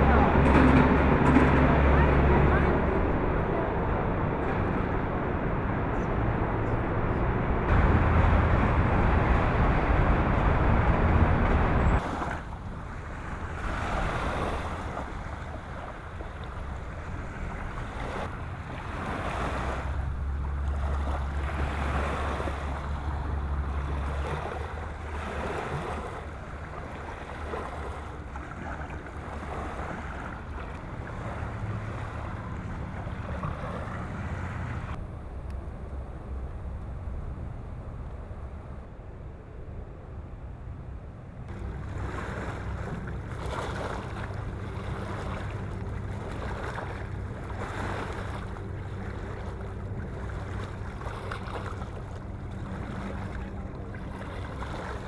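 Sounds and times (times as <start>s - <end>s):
water washing: 0.0s - 35.0s, 41.5s - 55.0s
low engine drone: 0.0s - 55.0s
wind buffeting microphone: 0.0s - 55.0s.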